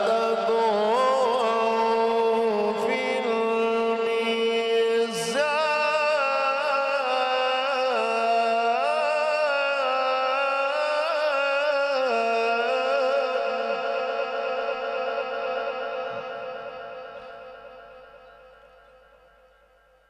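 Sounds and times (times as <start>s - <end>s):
man chanting into a microphone: 0.0s - 18.9s.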